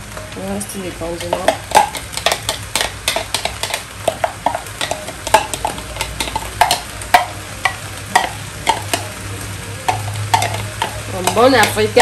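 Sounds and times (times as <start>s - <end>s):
spoon clinking on glass bowl: 1.2s - 9.1s, 9.8s - 12.0s.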